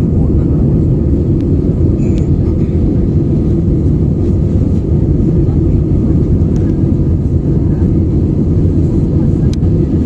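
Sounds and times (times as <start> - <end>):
rough sea and wind rumble: 0.0 - 10.0.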